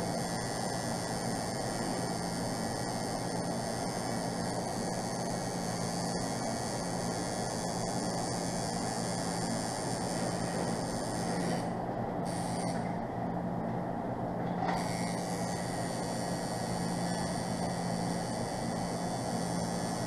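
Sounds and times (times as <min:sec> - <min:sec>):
tattoo machine humming: 0:00.0 - 0:13.6, 0:14.5 - 0:20.0.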